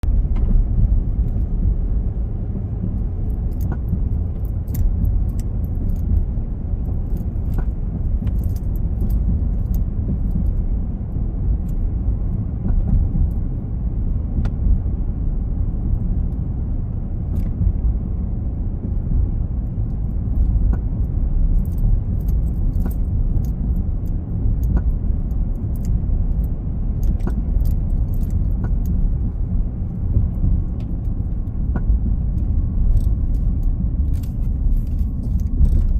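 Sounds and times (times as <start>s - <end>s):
pickup truck engine rumbling: 0.0s - 35.9s.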